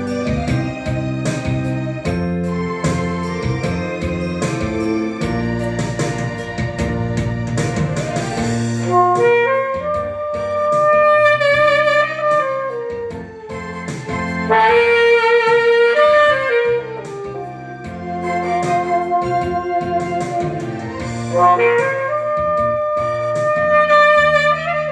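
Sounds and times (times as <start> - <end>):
backing track with steady beat: 0.0 - 24.9
saxophone melody: 0.0 - 24.9.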